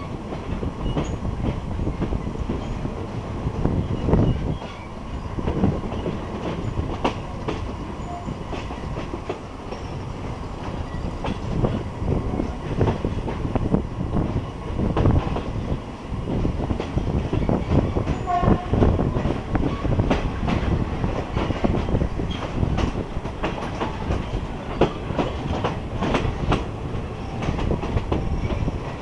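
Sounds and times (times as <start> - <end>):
train rumbling on track: 0.0 - 29.0.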